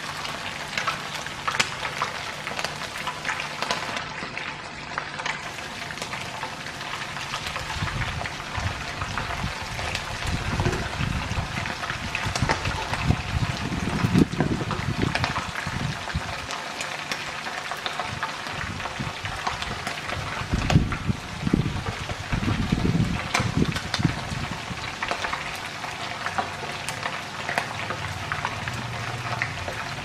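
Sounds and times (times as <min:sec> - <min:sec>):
meat frying in hot oil: 0:00.0 - 0:30.0.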